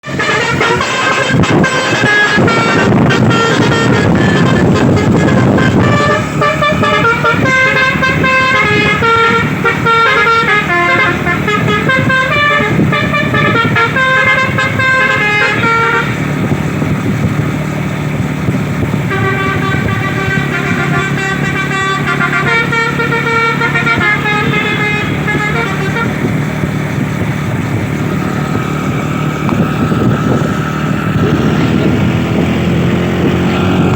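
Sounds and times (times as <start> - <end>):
multi-tone horn melody: 0.0 - 16.9, 19.0 - 26.8, 27.9 - 33.9.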